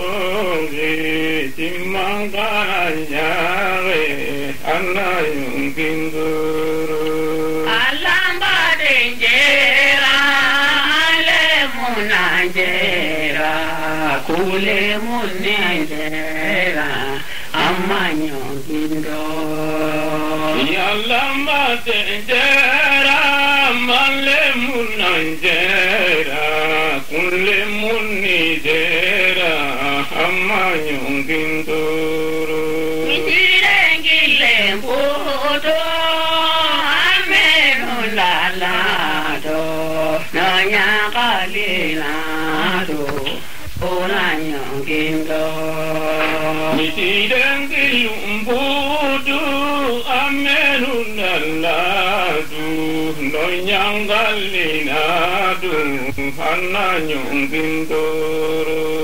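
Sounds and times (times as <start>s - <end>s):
man chanting: 0.0s - 59.0s
man singing: 0.0s - 59.0s.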